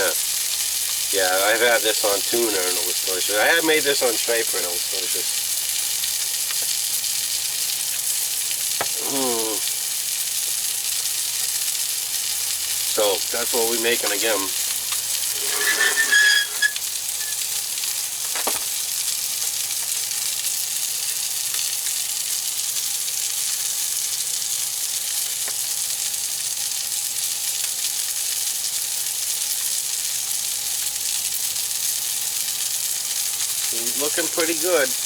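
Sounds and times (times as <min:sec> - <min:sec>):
fish sizzling in frying pan: 0:00.0 - 0:35.0.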